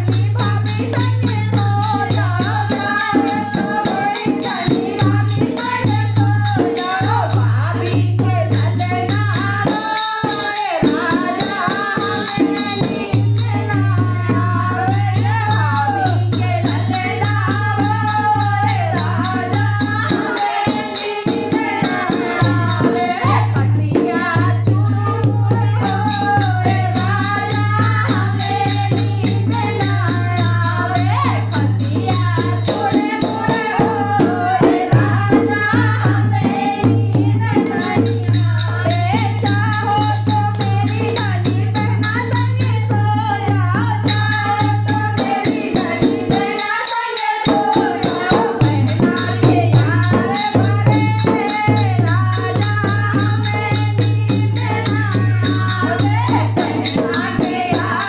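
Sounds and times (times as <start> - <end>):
person singing folk song: 0.0 - 58.0
rattling percussion: 0.0 - 58.0.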